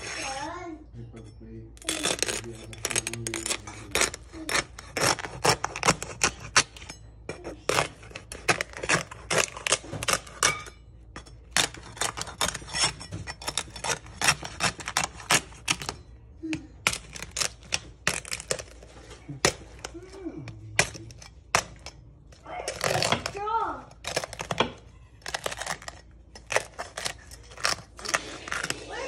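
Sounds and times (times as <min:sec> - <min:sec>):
crisp skin crackling under knife: 0:01.8 - 0:10.6, 0:11.5 - 0:16.1, 0:16.7 - 0:29.0.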